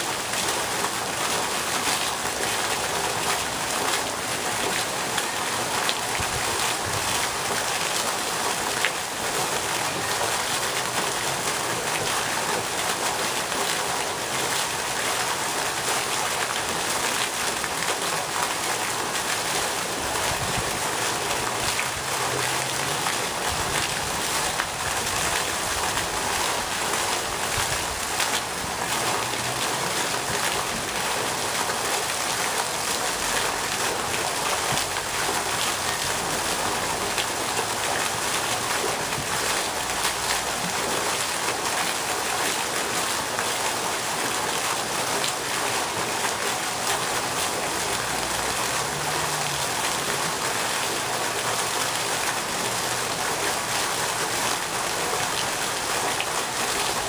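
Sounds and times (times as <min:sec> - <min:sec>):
fountain splashing on water: 0:00.0 - 0:57.0.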